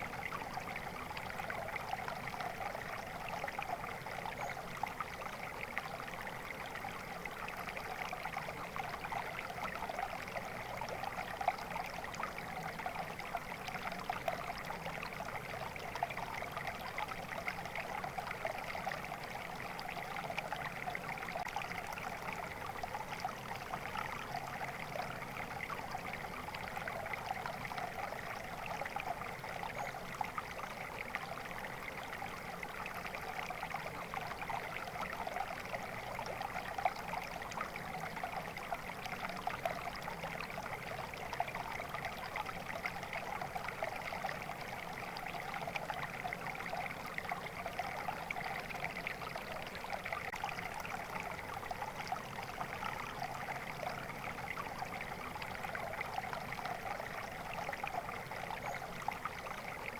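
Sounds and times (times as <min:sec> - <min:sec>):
flowing water babbling: 0:00.0 - 0:59.9.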